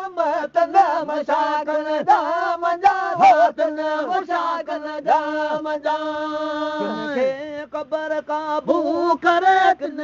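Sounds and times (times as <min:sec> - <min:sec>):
man chanting devotional song: 0:00.0 - 0:10.0.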